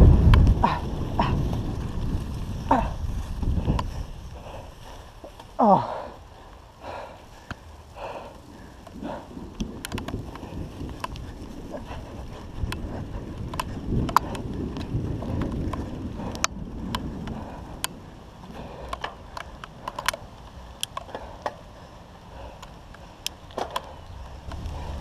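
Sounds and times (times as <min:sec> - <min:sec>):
bike rumbling over grass: 0:00.0 - 0:25.0
bike ticks and rattles: 0:00.0 - 0:25.0.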